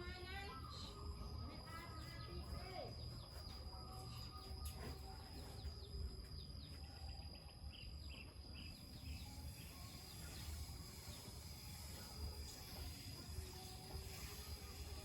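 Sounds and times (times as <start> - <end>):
high-pitched insect drone: 0.0 - 15.0
small birds chirping: 0.0 - 15.0.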